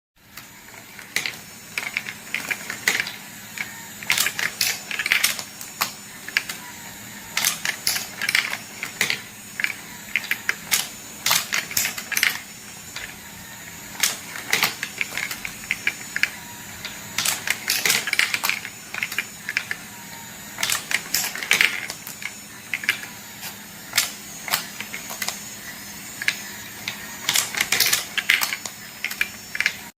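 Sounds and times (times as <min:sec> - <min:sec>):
marbles clattering on wooden track: 0:00.7 - 0:06.7, 0:07.3 - 0:13.2, 0:13.9 - 0:19.9, 0:20.6 - 0:23.2, 0:26.2 - 0:29.9.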